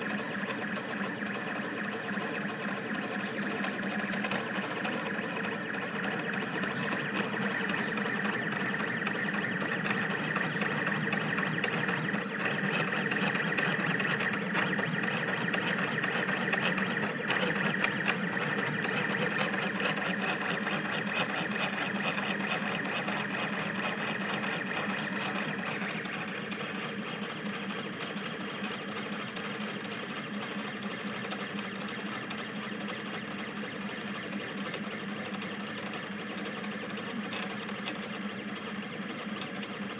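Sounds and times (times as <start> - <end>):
printer stepper motors whining: 0.0 - 39.9.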